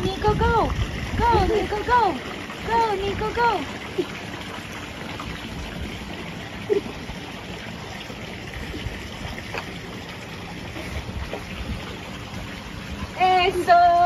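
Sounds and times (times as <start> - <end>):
pool water sloshing: 0.0 - 14.0.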